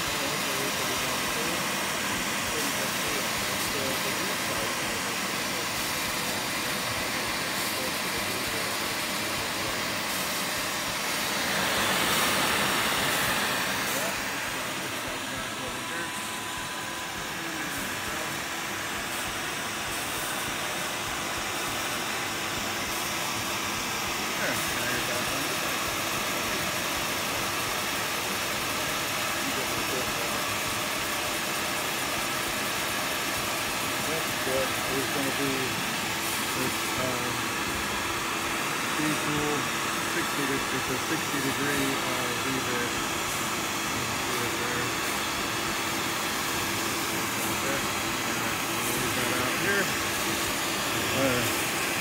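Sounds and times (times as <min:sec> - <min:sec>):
router spindle machining whir: 0:00.0 - 0:52.0.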